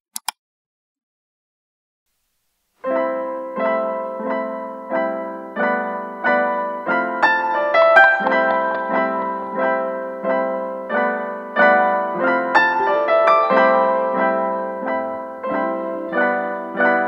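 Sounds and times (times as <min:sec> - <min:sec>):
electric piano music: 0:02.8 - 0:17.0.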